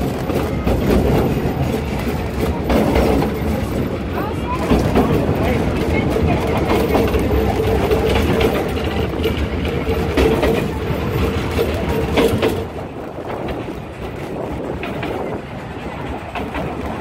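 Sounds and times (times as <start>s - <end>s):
train coach rumble and clatter: 0.0s - 17.0s
wheels knocking over rails: 0.0s - 17.0s.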